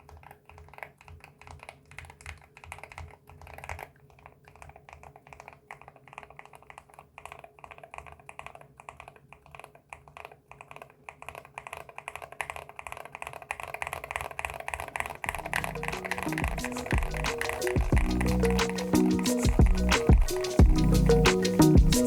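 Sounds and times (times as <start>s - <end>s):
fast typing on keyboard: 0.0s - 22.0s.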